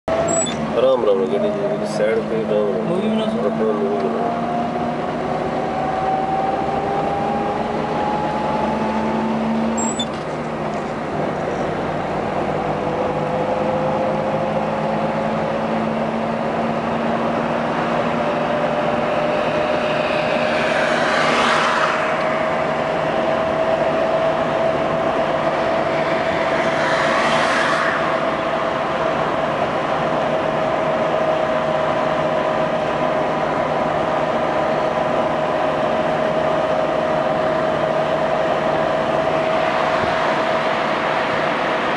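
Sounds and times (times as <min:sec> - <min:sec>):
car engine and tyre noise: 0:00.0 - 0:41.9
passing traffic rushing: 0:00.1 - 0:41.9.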